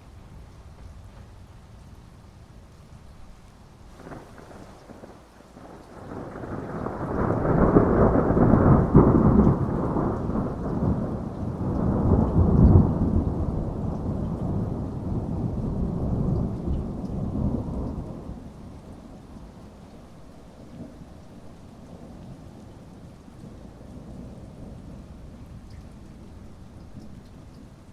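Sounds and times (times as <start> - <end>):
heavy rain hissing: 0.1 - 27.9
thunder rumbling: 3.9 - 27.9.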